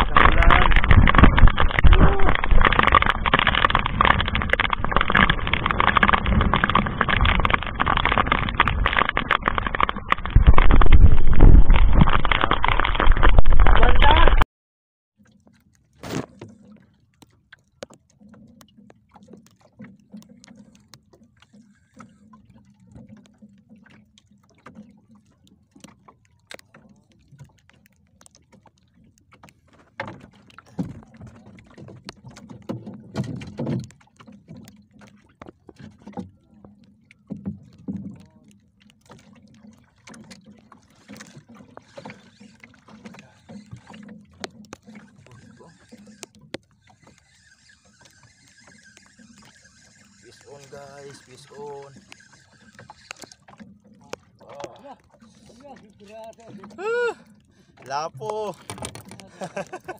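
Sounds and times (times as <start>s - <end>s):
knocks and clicks from boat: 0.0s - 14.4s, 15.2s - 59.9s
water lapping against boat hull: 0.0s - 14.4s, 15.1s - 59.9s.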